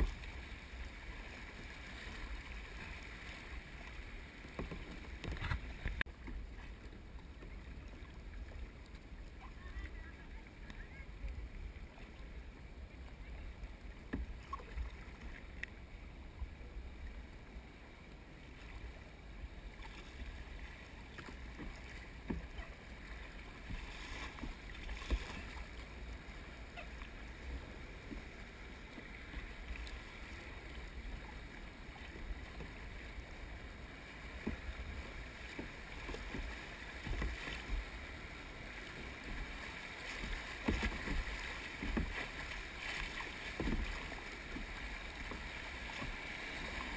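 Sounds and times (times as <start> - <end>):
water rushing and splashing: 0.0 - 46.9.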